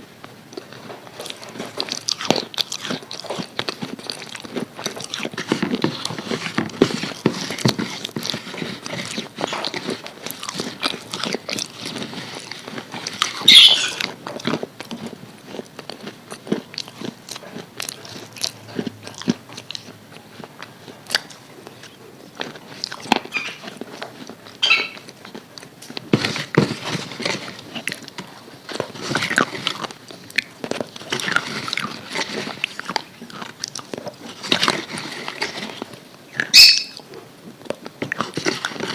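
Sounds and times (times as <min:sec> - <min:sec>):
crunching and chewing fried chicken: 0:00.0 - 0:38.9.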